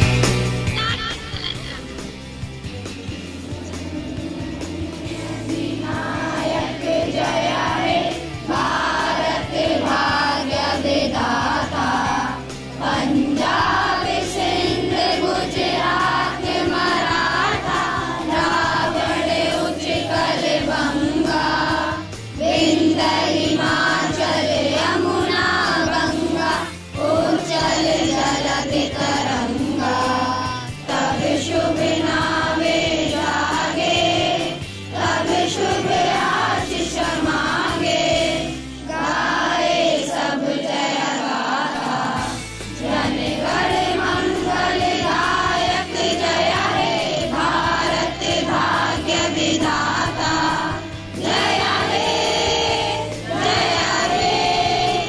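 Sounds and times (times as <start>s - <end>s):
musical accompaniment: 0.0s - 55.0s
group singing in chorus: 2.9s - 55.0s.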